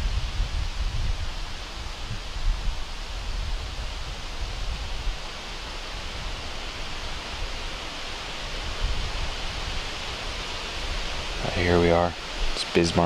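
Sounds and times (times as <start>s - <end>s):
wind buffeting microphone: 0.0s - 13.0s
wind through grass and leaves: 0.0s - 13.0s.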